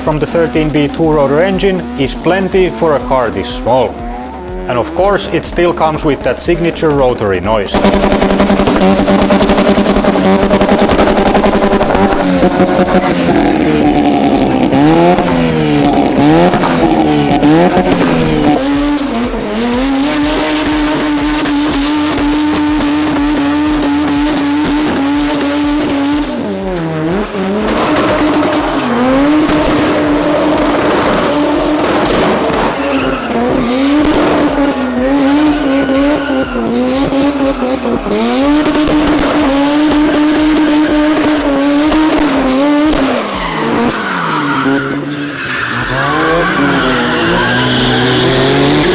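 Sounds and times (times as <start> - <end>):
rotary engine revving: 0.0 - 48.9.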